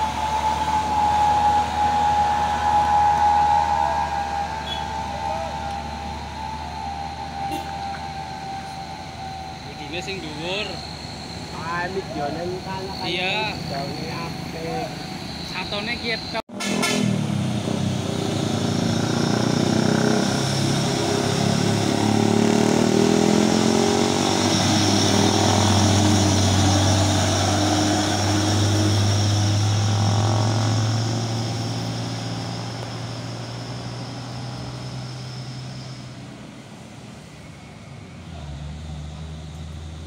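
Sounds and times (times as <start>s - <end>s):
steady high whine: 0.0s - 16.4s, 17.3s - 40.0s
diesel truck engine labouring: 0.0s - 40.0s.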